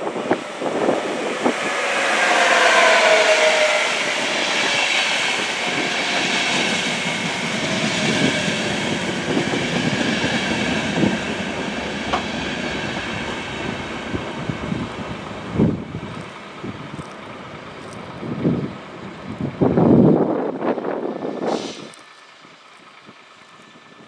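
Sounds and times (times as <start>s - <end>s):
electric locomotive whine: 0.0s - 24.0s
train wheel and rail noise: 0.0s - 24.0s.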